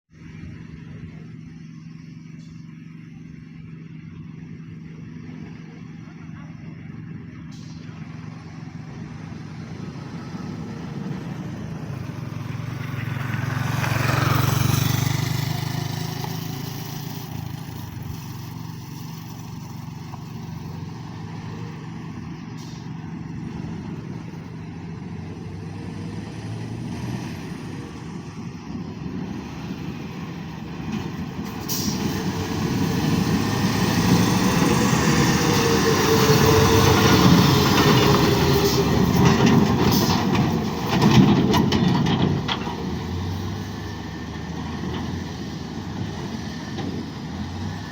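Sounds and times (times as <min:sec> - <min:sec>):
heavy truck driving past: 0:00.2 - 0:47.9
heavy vehicle approaching: 0:00.2 - 0:47.9.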